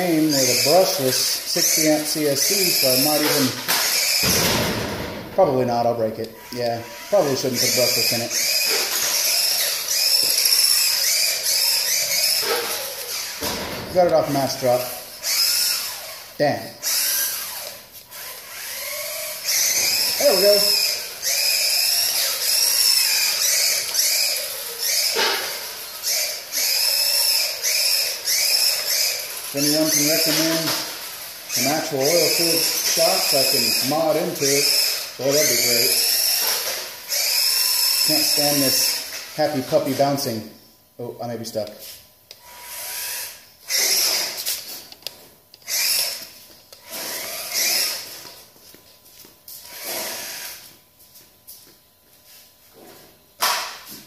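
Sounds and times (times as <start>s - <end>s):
electric motor and gears whining: 0.0s - 40.6s, 41.3s - 54.0s.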